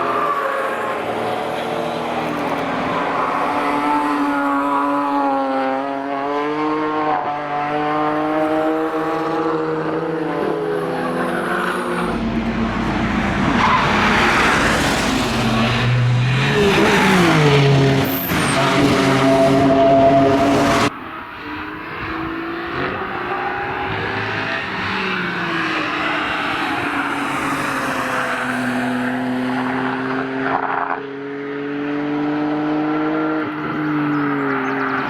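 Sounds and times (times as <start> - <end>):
race car passing at full throttle: 0.0 - 35.0.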